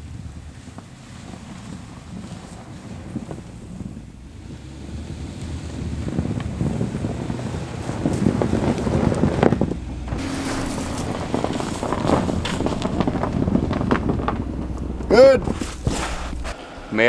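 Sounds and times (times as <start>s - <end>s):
truck engine running: 0.0s - 17.0s
tyres crunching on snow: 0.0s - 17.0s
wind rumble on microphone: 0.0s - 17.0s.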